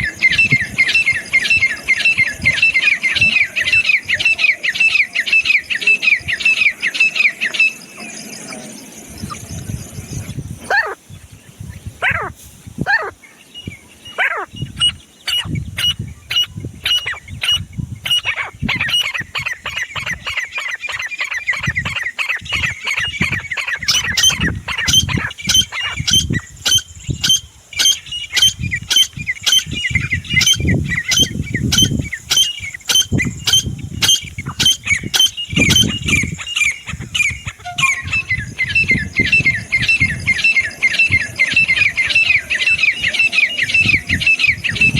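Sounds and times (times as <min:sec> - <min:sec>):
francolin calling: 0:00.0 - 0:16.0, 0:18.1 - 0:44.9.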